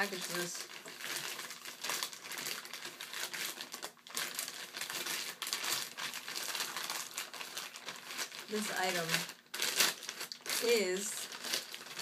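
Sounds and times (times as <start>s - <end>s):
packaging wrap crinkling: 0.0s - 12.0s.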